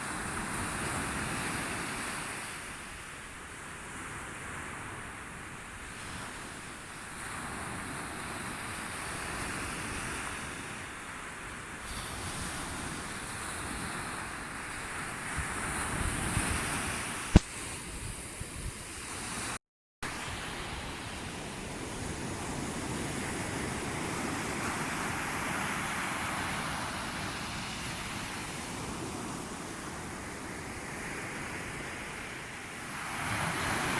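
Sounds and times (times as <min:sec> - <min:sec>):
sea waves on the shore: 0:00.0 - 0:33.9.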